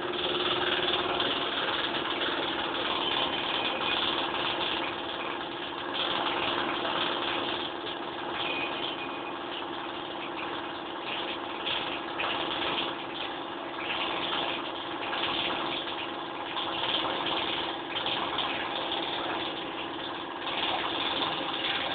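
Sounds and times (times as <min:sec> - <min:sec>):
machine humming: 0:00.0 - 0:21.9.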